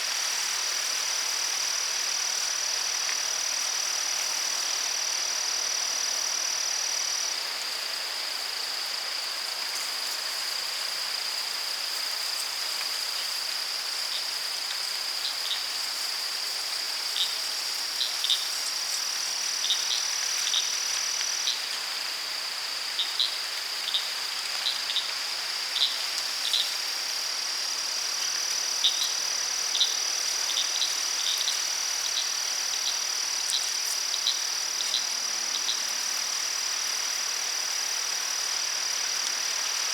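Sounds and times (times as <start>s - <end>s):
insects trilling drone: 0.1s - 39.9s.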